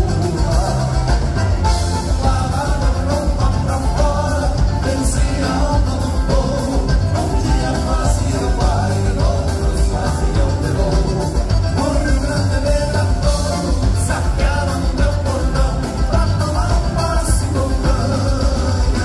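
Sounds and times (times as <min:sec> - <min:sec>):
accordions: 0:00.0 - 0:19.0
dance band music: 0:00.0 - 0:19.0
man singing: 0:00.0 - 0:19.0.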